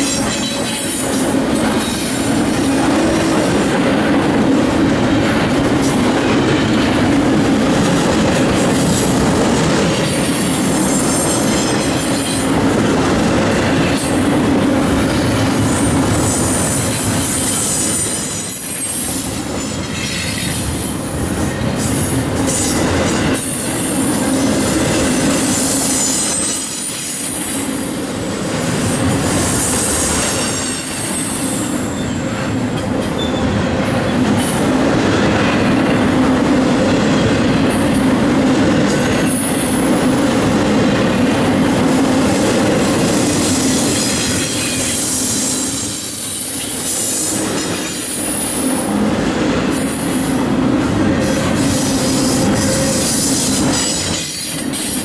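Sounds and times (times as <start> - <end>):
train cars rolling on rails: 0.0 - 55.0.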